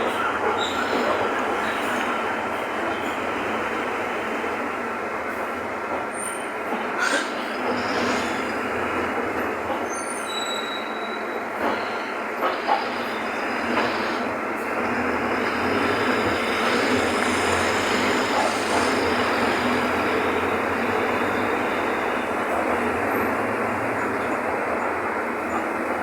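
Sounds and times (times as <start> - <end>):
bus engine and road noise: 0.0 - 10.4, 11.5 - 26.0.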